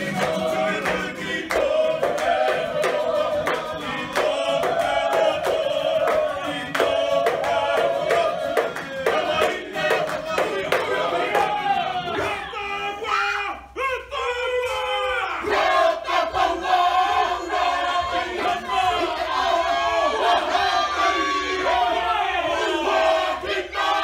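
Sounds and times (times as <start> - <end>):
group singing: 0.0 - 13.0, 14.7 - 24.0.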